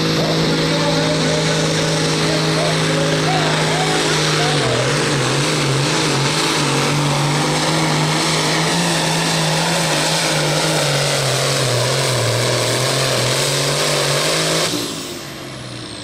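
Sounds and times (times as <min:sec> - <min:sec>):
tractor engine running flat out: 0:00.0 - 0:16.0.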